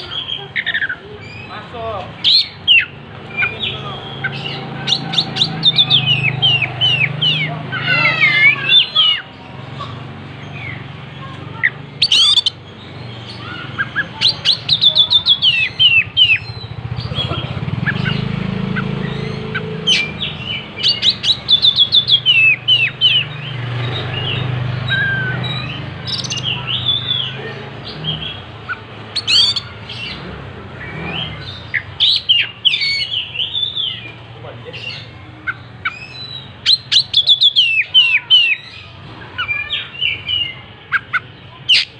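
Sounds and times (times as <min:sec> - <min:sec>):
bird singing chirps and whistles: 0:02.2 - 0:09.3, 0:11.6 - 0:16.8, 0:17.8 - 0:34.1, 0:35.8 - 0:41.9.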